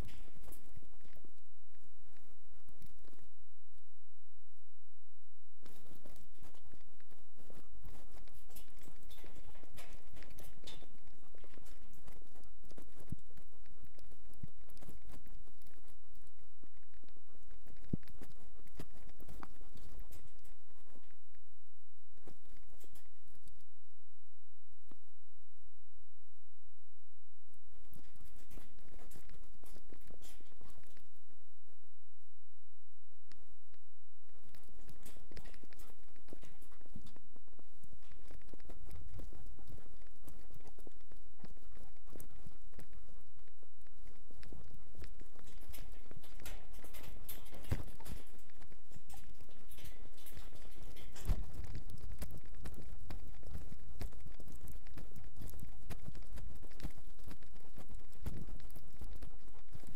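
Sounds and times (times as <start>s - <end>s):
dog footsteps crunching: 0.0s - 3.4s, 5.6s - 23.7s, 27.7s - 31.6s, 33.4s - 59.9s
constant low rumble: 0.0s - 25.4s, 27.3s - 59.9s.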